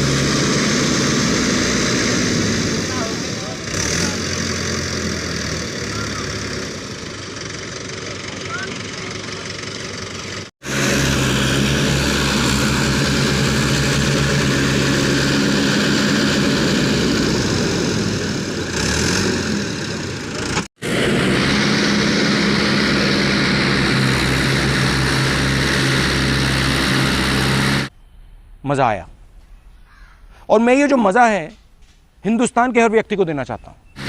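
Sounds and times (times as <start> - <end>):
tractor engine running hard: 0.0 - 27.9.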